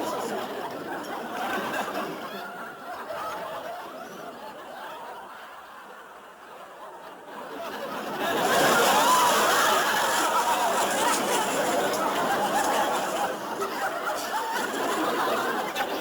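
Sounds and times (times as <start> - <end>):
audience laughing: 0.0 - 16.0.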